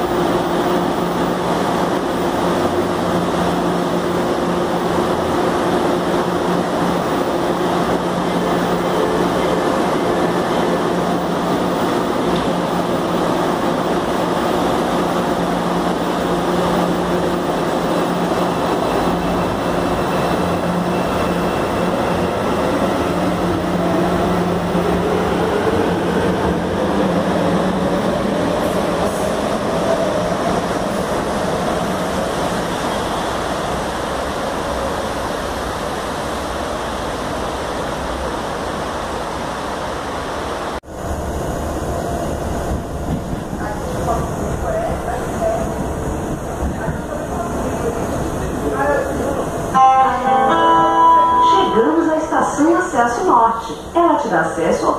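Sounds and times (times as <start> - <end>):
train running noise: 0.0 - 54.9.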